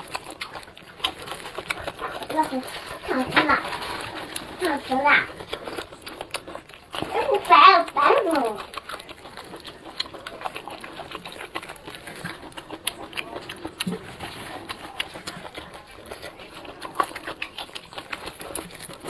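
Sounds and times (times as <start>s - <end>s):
chewing and mouth sounds: 0.0s - 19.0s.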